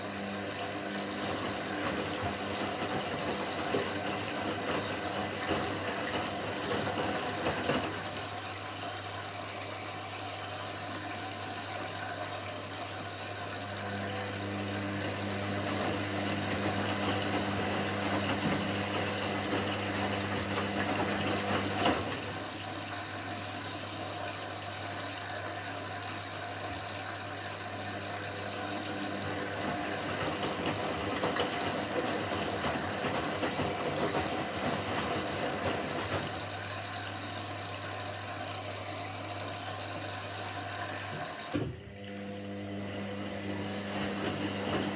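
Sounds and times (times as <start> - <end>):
washing machine humming: 0.0 - 44.9.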